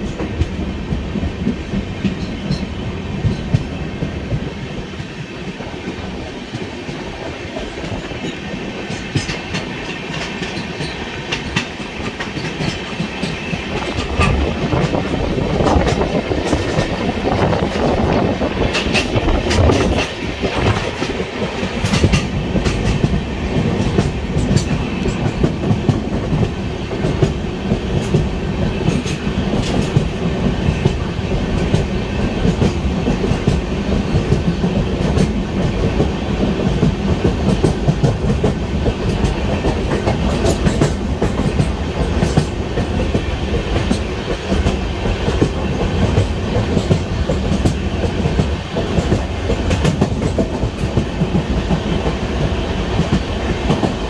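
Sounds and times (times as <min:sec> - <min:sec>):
train wheels rumbling on rails: 0:00.0 - 0:54.0
wheels clicking over rail joints: 0:06.0 - 0:54.0.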